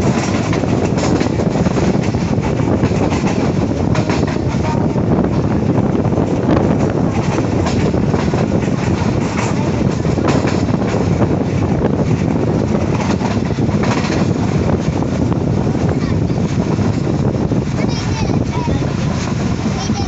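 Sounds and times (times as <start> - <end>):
train wheels on rails: 0.0 - 20.0
wheels clicking on track: 0.0 - 20.0.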